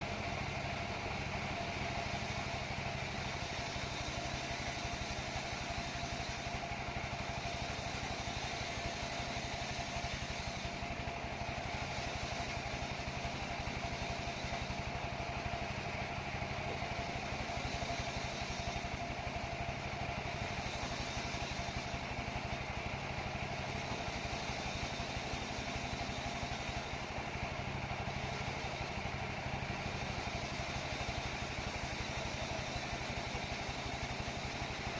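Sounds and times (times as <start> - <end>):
sawmill saw running: 0.0 - 34.9.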